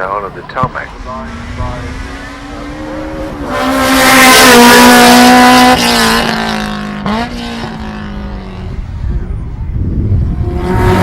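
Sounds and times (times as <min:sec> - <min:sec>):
race car engine passing: 0:00.6 - 0:09.0, 0:10.0 - 0:11.0.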